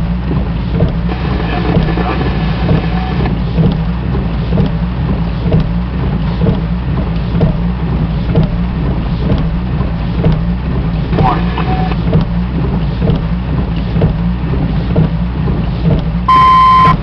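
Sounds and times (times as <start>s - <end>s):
vehicle engine droning: 0.0s - 17.0s
motion noise: 0.3s - 17.0s.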